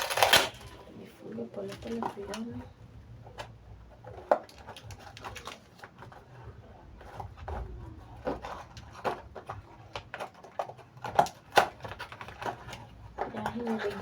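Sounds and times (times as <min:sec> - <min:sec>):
plastic wrapping crinkling: 0:00.0 - 0:02.6, 0:04.0 - 0:14.0.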